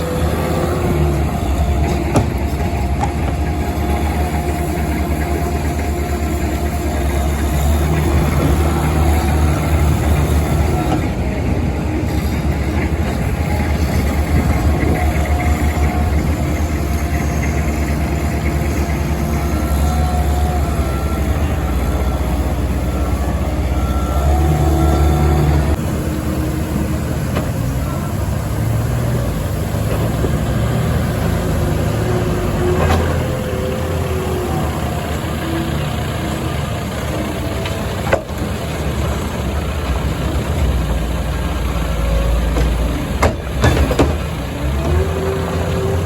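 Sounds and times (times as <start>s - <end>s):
diesel engine revving under load: 0.0s - 46.0s.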